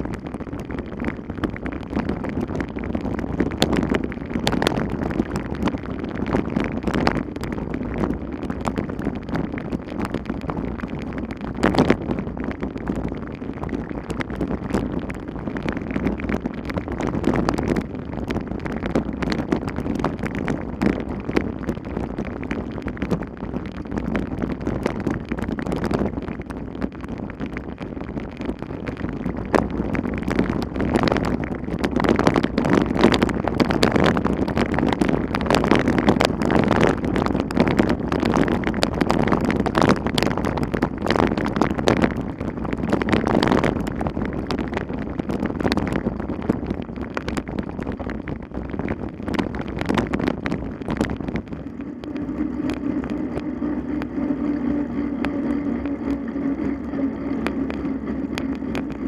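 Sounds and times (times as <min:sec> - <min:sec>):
low hum with faint whine: 0:00.0 - 0:59.0
wind buffeting microphone: 0:00.0 - 0:59.0.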